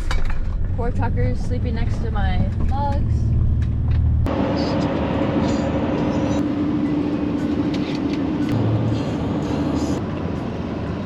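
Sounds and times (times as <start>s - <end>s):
van road and engine noise: 0.0s - 11.0s.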